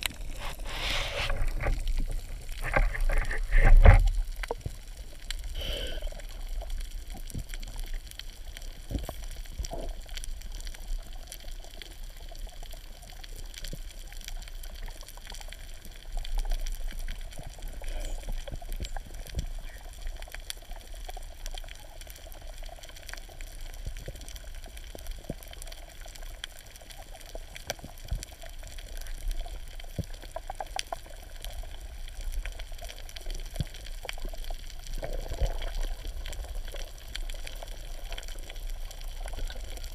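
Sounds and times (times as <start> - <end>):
sharp clicks and crackles: 0.0 - 39.9
underwater water rumble: 0.0 - 39.9.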